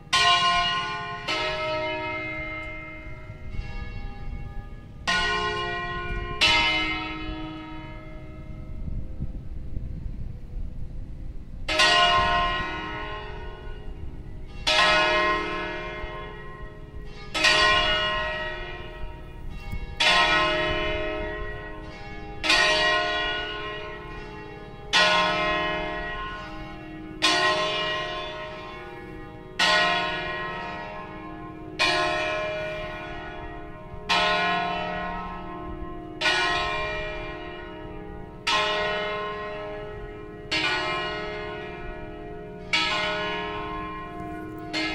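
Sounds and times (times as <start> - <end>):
church bells striking: 0.0 - 9.5, 11.6 - 44.9.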